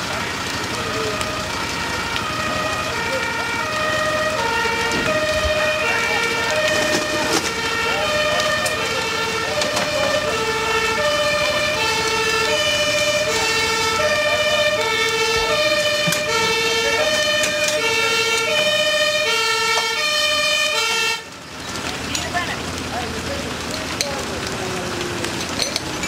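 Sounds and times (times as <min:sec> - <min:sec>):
two-tone siren: 0:00.0 - 0:21.4.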